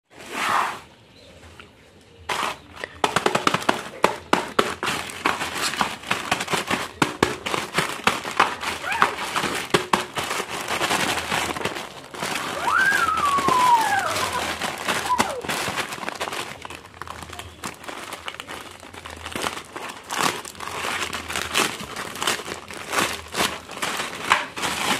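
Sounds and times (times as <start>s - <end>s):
plastic mailer bag crinkling: 2.3s - 24.9s.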